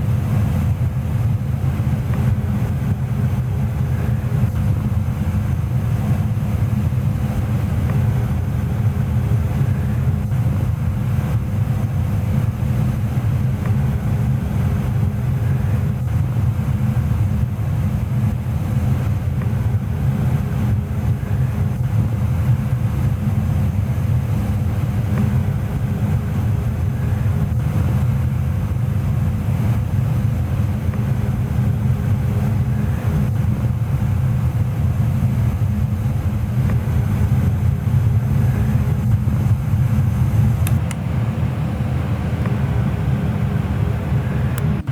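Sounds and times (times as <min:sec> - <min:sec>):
faint steady hum: 0:00.0 - 0:44.9
gas furnace rumbling: 0:00.0 - 0:44.9.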